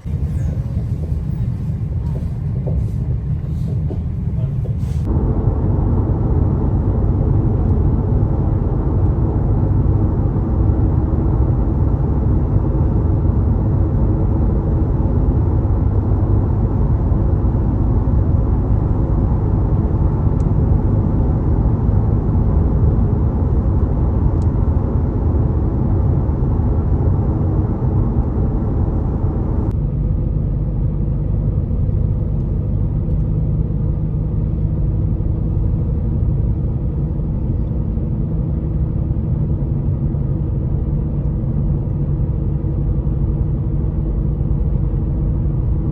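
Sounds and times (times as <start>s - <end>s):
faint hum: 0.0s - 45.9s
train rumbling: 0.0s - 45.9s.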